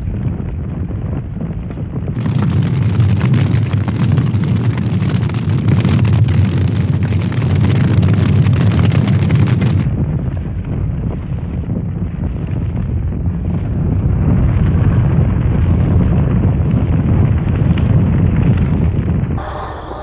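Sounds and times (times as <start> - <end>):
fire crackling: 0.0 - 20.0
fire roaring: 0.0 - 20.0.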